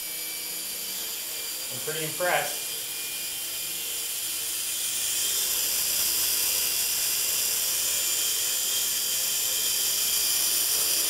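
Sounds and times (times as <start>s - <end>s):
rc helicopter motor whine: 0.0s - 11.0s.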